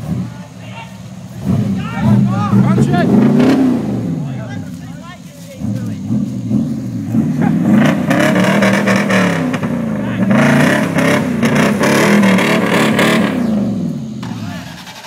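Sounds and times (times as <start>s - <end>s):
wheels spinning in loose dirt: 0.0s - 15.0s
engine revving hard: 1.3s - 4.7s, 5.6s - 15.0s.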